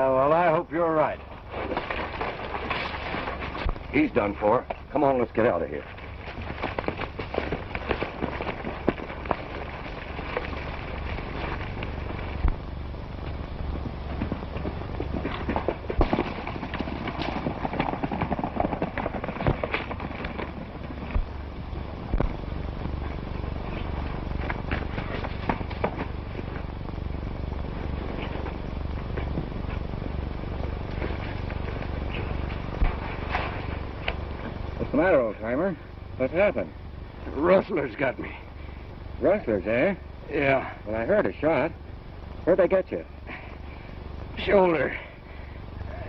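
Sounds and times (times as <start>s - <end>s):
film soundtrack hum and hiss: 0.0s - 46.0s
horses galloping on dirt: 0.0s - 46.0s.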